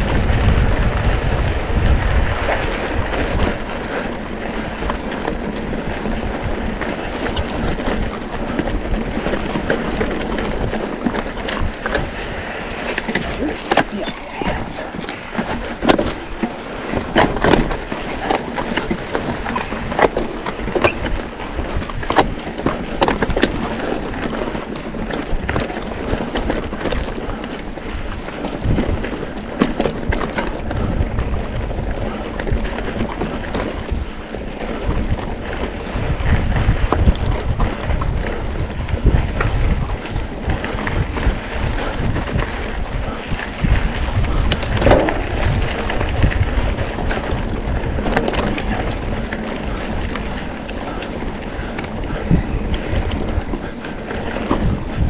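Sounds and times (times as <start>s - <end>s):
bike knocking and rattling: 0.0s - 55.0s
bike tyres crunching on stones: 0.0s - 55.0s
wind on the microphone: 0.0s - 55.0s.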